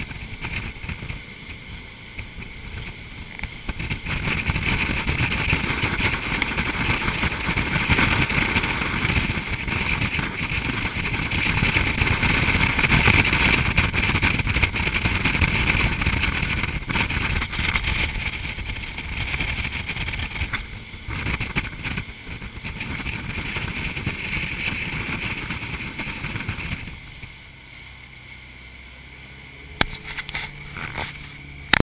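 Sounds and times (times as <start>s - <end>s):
boat engine running: 0.0s - 31.8s
wind rush on microphone: 0.0s - 31.8s.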